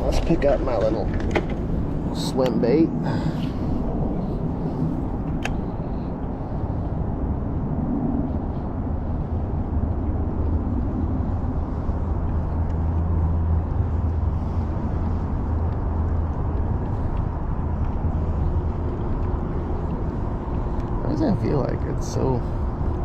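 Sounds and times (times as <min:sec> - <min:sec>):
low rumble: 0:00.0 - 0:23.0
steady rushing noise: 0:00.0 - 0:23.0.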